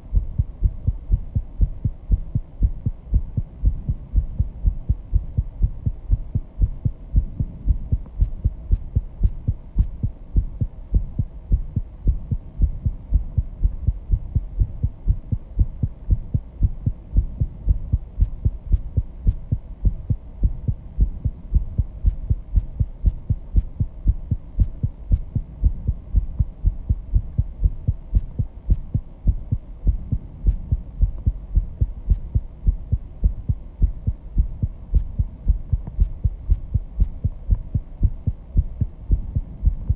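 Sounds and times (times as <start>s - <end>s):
heartbeat low thuds: 0.0s - 39.9s.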